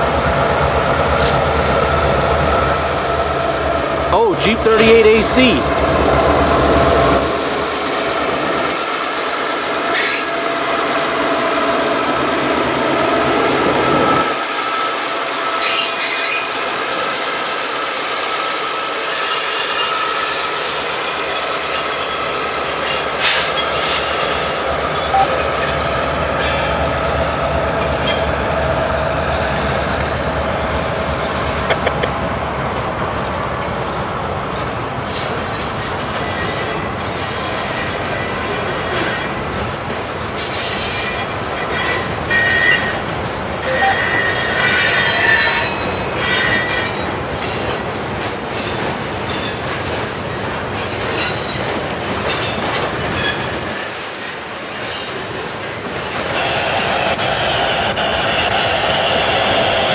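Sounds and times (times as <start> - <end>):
diesel locomotive engine rumbling: 0.0 - 59.9.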